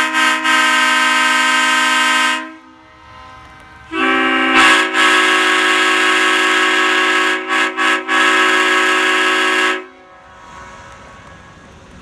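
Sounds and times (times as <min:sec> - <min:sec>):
train horn blowing a chord: 0:00.0 - 0:11.7.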